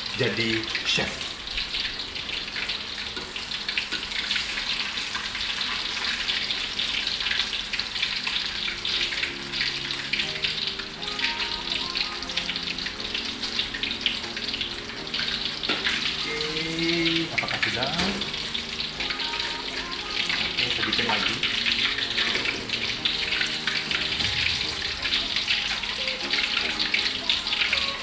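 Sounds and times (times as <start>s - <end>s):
fish deep-frying in hot oil: 0.0s - 28.0s.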